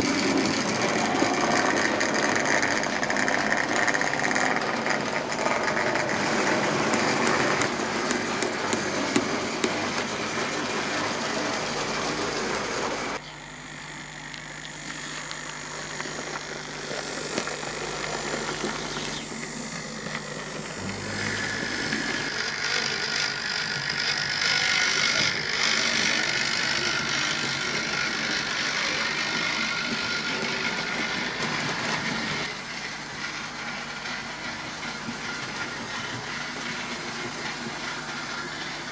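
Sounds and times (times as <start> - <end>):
model trains rattling whirr: 0.0 - 38.9
steady high whine: 0.0 - 38.9.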